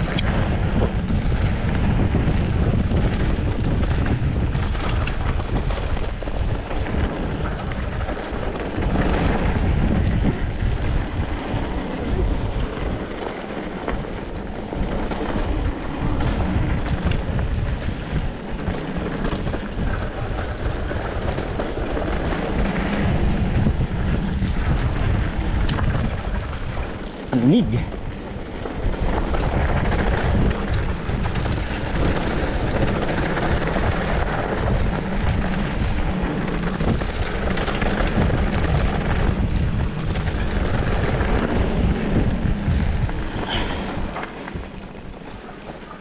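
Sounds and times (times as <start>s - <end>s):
tyres rumbling on dirt trail: 0.0s - 46.0s
wind buffeting microphone: 0.0s - 46.0s.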